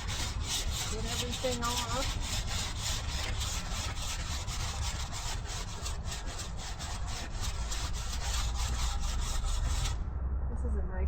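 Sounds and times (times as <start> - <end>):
wire brush scrubbing wood: 0.0 - 10.0.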